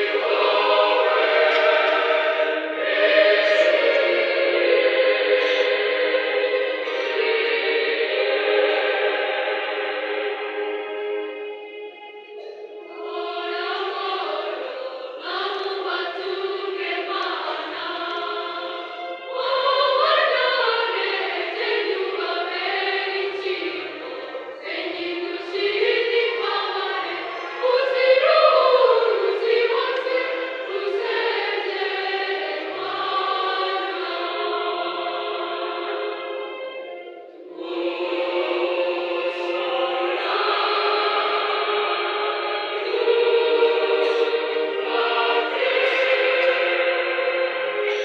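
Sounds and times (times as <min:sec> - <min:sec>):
choir singing a hymn: 0:00.0 - 0:48.0.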